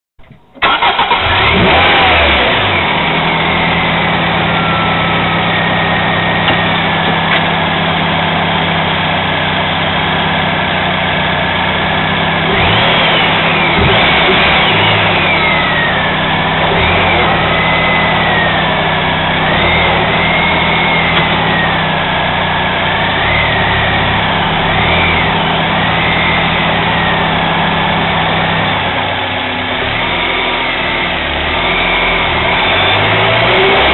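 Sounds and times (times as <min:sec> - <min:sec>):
car engine starting and running: 0:00.2 - 0:33.9.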